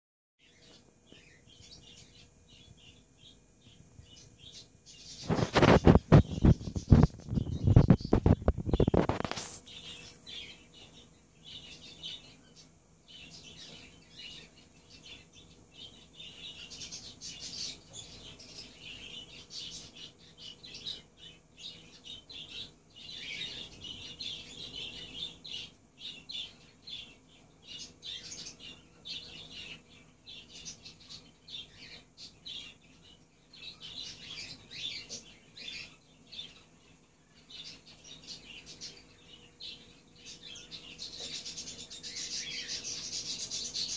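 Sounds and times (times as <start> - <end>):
parakeets chattering: 3.7 - 43.9.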